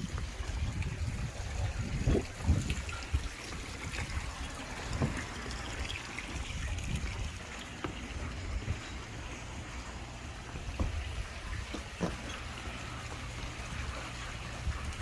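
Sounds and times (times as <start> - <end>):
water trickling and lapping: 0.0 - 15.0.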